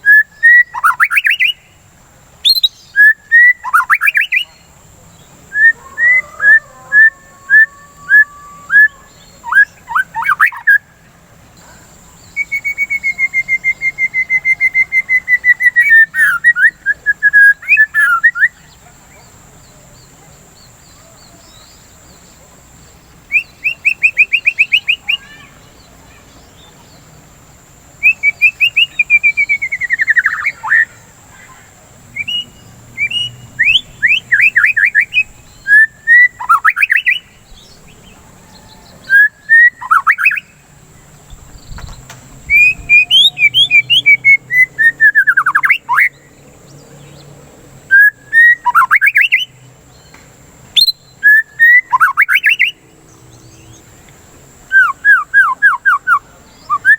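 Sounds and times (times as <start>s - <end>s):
songbird singing fast trills: 0.0s - 56.9s.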